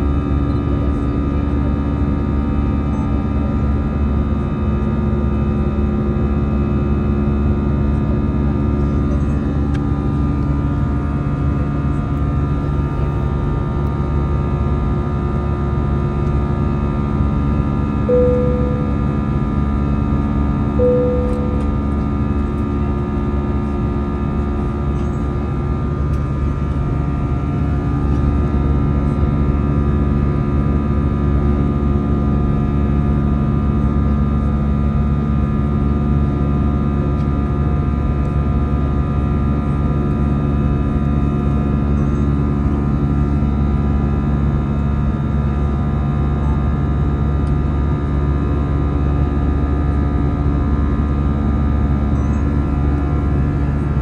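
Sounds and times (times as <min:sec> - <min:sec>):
jet engine cabin drone: 0:00.0 - 0:54.0.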